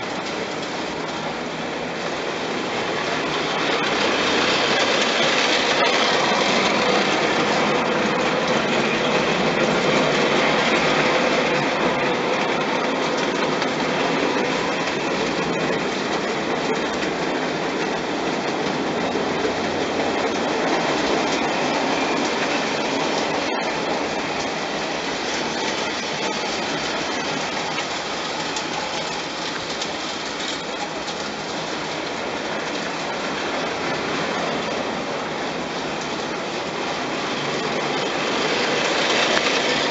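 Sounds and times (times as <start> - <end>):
model train wheels clattering: 2.8 - 34.3, 37.4 - 39.9.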